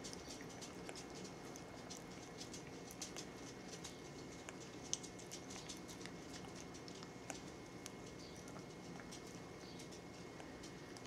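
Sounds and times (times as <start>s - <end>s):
parrot beak clicking and smacking: 0.0s - 11.0s.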